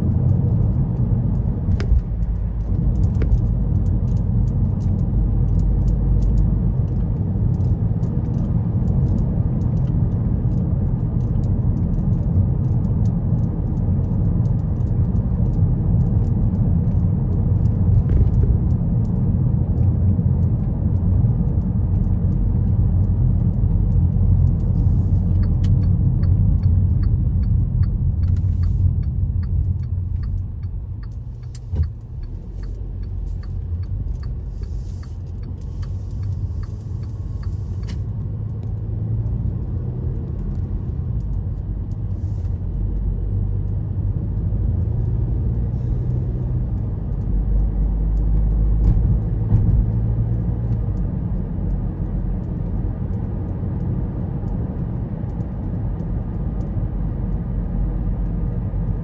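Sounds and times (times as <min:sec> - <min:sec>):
car road noise rumble: 0:00.0 - 0:59.0
light clicks and ticks: 0:00.1 - 0:59.0.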